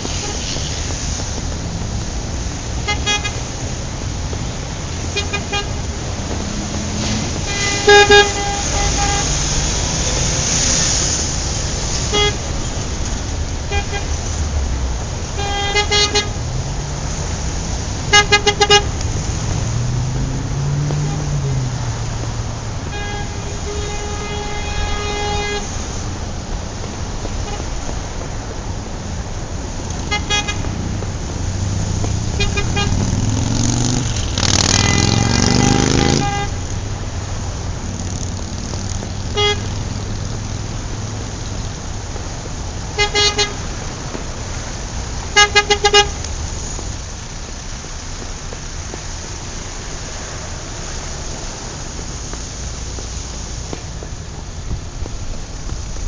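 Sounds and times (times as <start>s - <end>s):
car horns honking: 0.0s - 14.4s, 15.2s - 56.0s
passing vehicle engine: 0.0s - 56.0s
rumble of car traffic: 0.0s - 56.0s.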